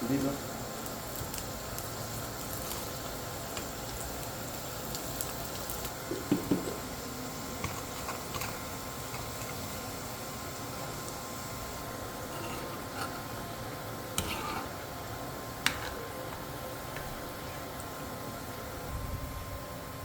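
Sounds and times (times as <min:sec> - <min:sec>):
pot of dal bubbling: 0:00.6 - 0:18.0.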